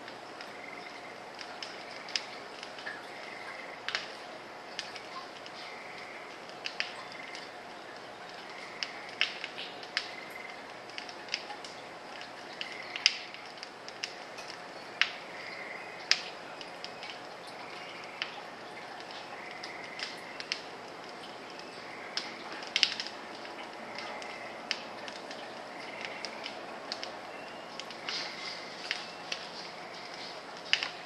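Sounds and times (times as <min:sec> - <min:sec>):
faint steady hum: 0:00.0 - 0:31.0
sharp clicks and cracks: 0:00.0 - 0:31.0.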